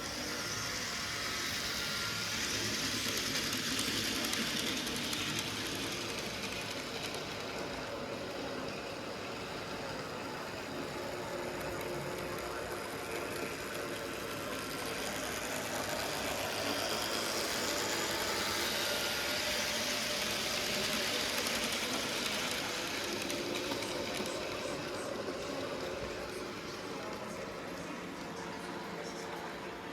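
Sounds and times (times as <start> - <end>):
model locomotive whirring: 0.0 - 29.9.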